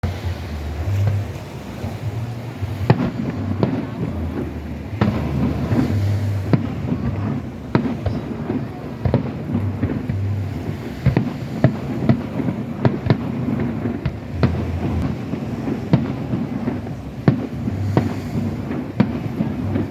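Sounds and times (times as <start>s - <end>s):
steady low rumble: 0.0s - 19.9s
firework shells bursting: 2.8s - 19.9s.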